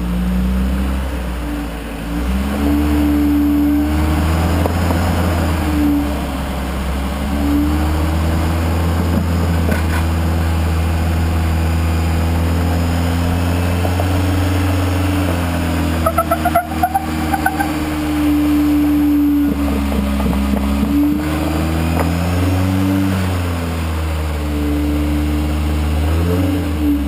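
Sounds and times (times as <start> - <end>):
engine revving: 0.0 - 27.0
steady low drone: 0.0 - 27.0.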